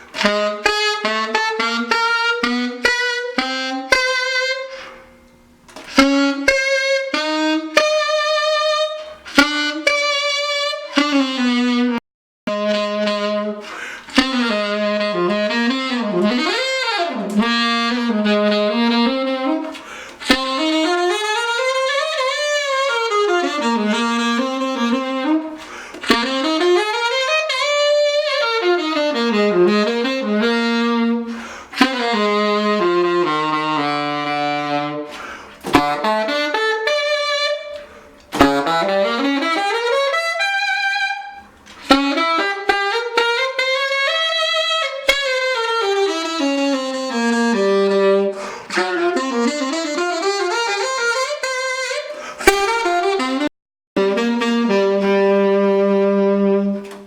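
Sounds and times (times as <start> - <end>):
saxophone playing quick runs: 0.1 - 5.0, 5.8 - 57.0.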